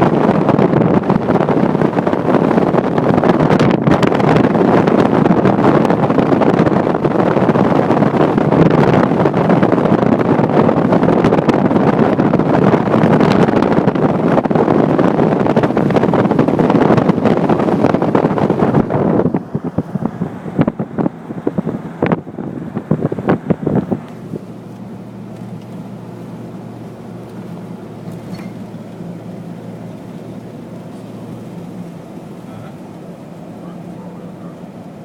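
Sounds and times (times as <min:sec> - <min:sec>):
vehicle driving rushing noise: 0:00.0 - 0:35.0
wind buffeting microphone: 0:00.0 - 0:35.0.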